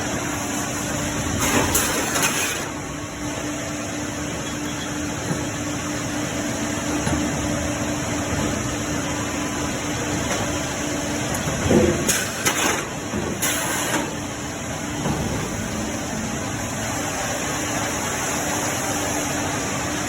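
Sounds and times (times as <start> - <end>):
sawmill machinery hum: 0.0 - 20.0.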